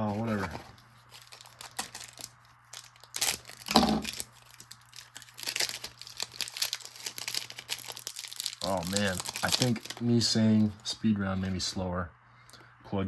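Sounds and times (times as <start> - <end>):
wrappers tearing and crinkling: 0.0 - 10.9.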